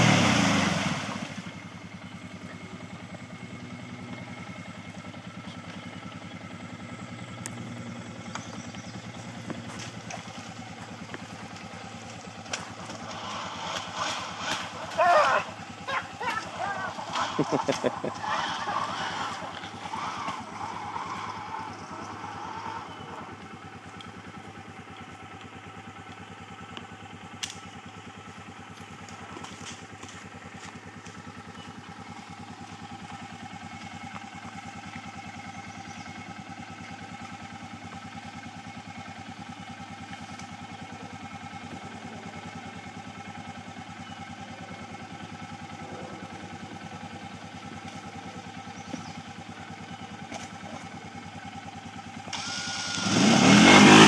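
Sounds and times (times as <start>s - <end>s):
atv engine idling: 0.0s - 54.0s.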